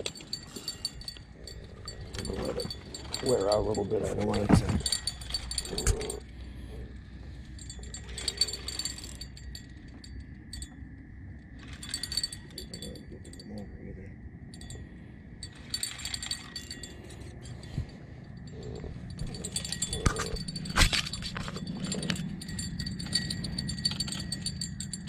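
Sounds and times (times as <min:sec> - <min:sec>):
fishing reel clinking: 0:00.0 - 0:13.9, 0:14.5 - 0:25.0
low steady hum: 0:00.0 - 0:25.0.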